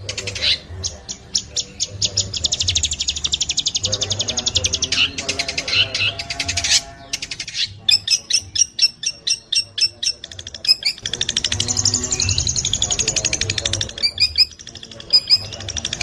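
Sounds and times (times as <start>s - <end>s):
shrike singing: 0.0s - 16.0s.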